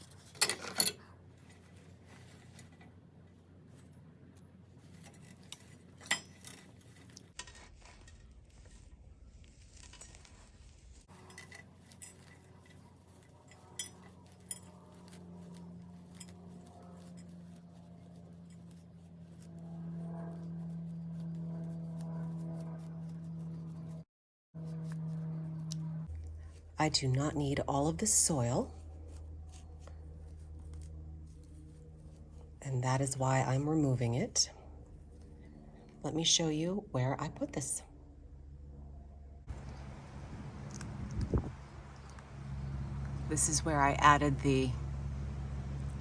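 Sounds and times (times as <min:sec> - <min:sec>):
steady low hum: 0:00.0 - 0:24.0, 0:24.6 - 0:46.0.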